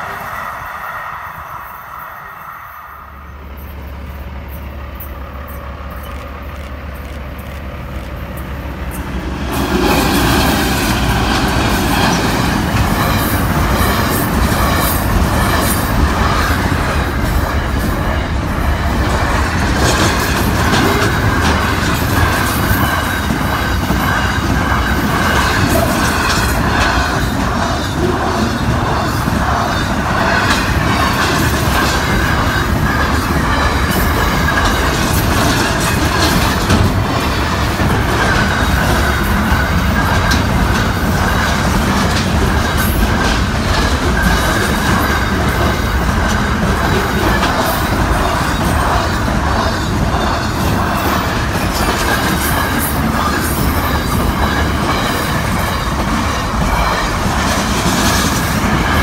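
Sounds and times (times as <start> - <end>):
freight train rolling past: 0.0 - 59.0
train wheels clicking on rails: 0.0 - 59.0.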